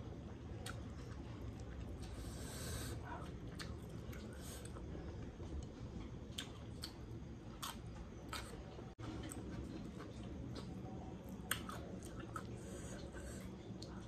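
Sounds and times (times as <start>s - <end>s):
person chewing: 0.4s - 14.0s.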